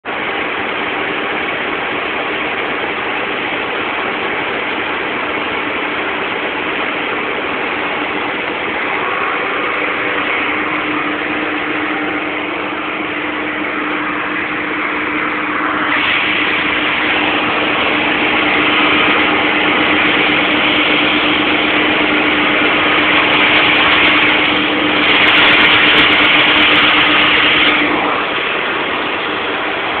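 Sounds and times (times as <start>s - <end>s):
tractor running: 0.0s - 30.0s
harsh hiss: 4.4s - 30.0s.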